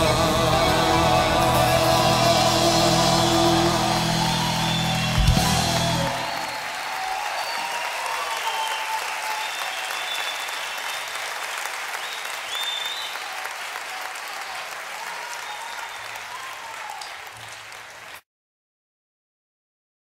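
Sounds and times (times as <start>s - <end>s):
audience applauding: 0.0s - 18.2s.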